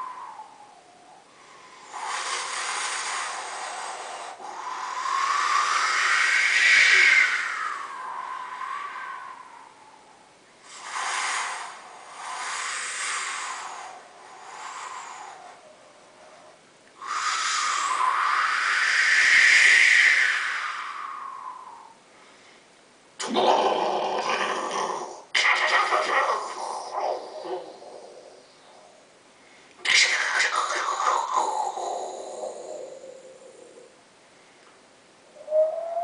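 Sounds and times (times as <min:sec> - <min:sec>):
person imitating wind: 0:00.0 - 0:00.9, 0:01.9 - 0:16.4, 0:17.0 - 0:22.0, 0:23.2 - 0:28.9, 0:29.8 - 0:34.0, 0:35.3 - 0:36.0.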